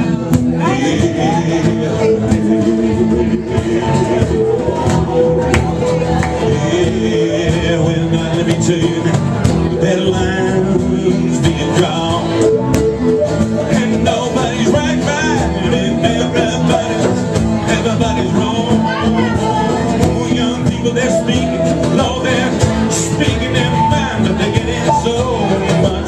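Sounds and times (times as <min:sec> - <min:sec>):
live band playing loudly: 0:00.0 - 0:26.0
person singing: 0:00.0 - 0:26.0.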